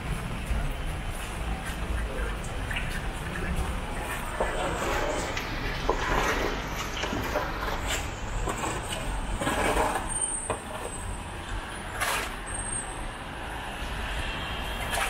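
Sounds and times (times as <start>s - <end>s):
traffic rumble on wet road: 0.0s - 15.0s.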